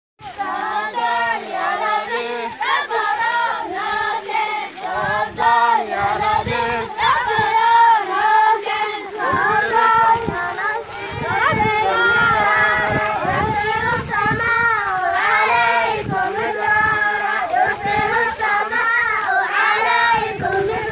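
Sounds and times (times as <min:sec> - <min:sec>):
children singing a chant: 0:00.2 - 0:20.9.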